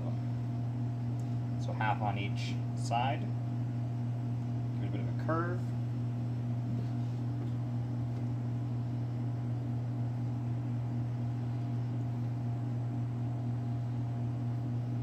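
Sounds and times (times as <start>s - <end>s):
kitchen machinery humming: 0.0s - 15.0s.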